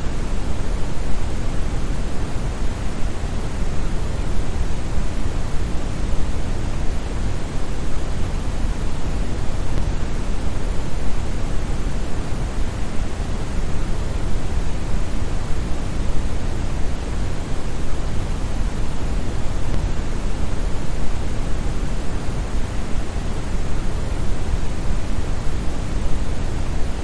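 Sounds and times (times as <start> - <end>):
brown noise rushing hiss: 0.0 - 27.0.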